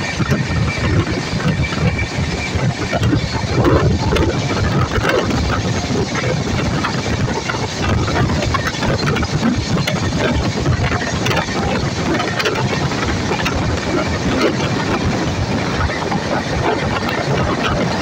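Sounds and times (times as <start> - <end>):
train running rumble: 0.0 - 18.0
train wheel clicks: 0.0 - 18.0
wind on microphone: 0.0 - 18.0.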